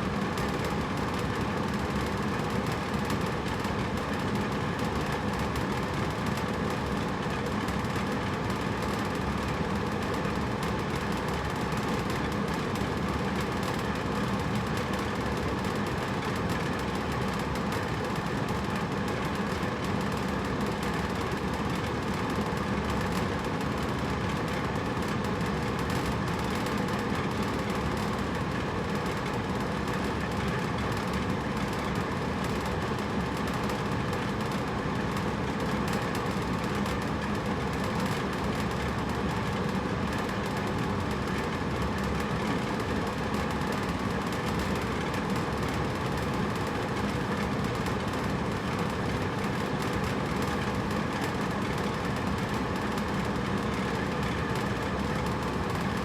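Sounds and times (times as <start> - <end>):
air conditioner running: 0.0 - 56.0.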